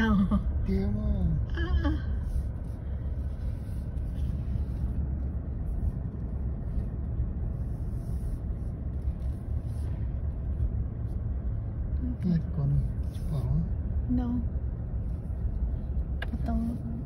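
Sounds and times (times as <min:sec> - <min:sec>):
engine and tyre rumble inside car: 0:00.0 - 0:17.0.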